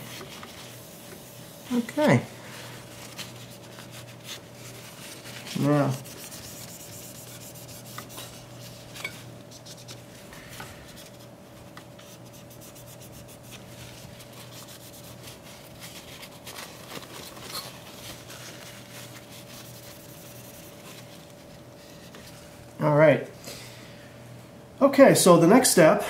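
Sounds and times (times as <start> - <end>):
paper towel scrubbing metal: 0.0 - 22.5
faint steady hum: 0.0 - 26.0.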